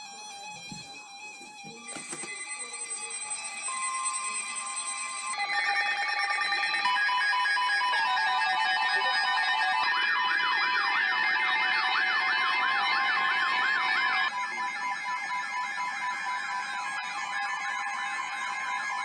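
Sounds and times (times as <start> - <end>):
sweeping siren-like tone: 0.3 - 19.0.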